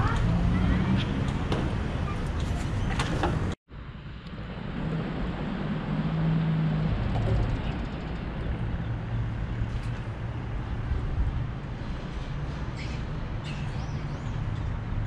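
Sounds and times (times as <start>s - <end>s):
passing vehicle engine hum: 0.0s - 13.4s
distant road traffic rumble: 0.0s - 15.0s.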